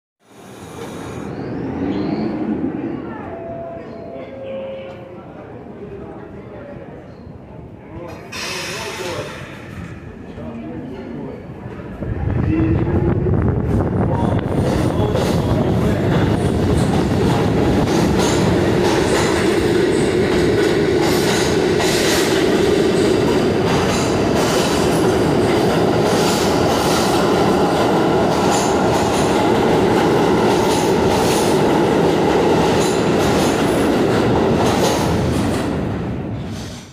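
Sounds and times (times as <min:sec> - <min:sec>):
subway train rumbling past: 0:00.2 - 0:36.9.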